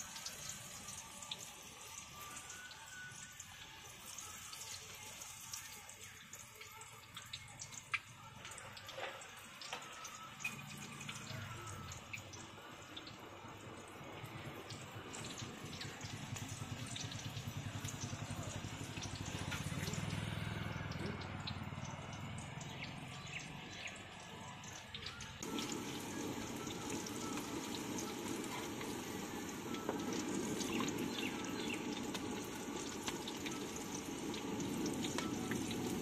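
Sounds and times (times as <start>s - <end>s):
deep-frying sizzle and pops: 0.0s - 36.0s.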